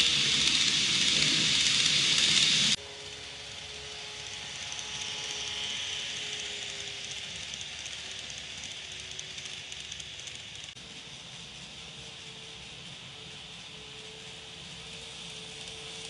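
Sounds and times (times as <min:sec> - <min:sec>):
model train wheels hissing on rails: 0:00.0 - 0:16.0.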